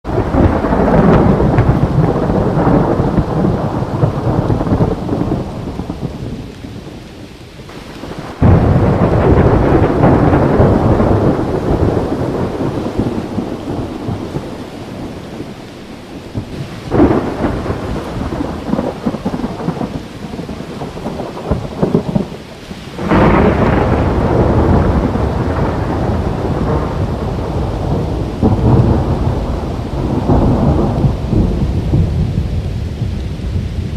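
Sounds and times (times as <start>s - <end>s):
rain falling: 0.0s - 33.9s
thunder rolling and clapping: 0.1s - 6.9s, 7.7s - 15.5s, 16.3s - 33.9s.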